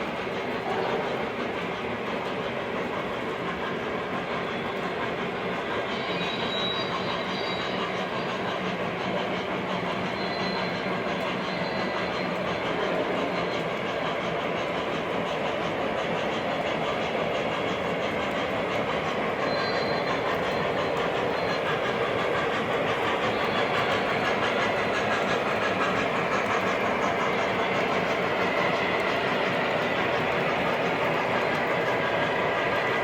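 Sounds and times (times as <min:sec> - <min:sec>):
model train rolling: 0:00.0 - 0:33.0.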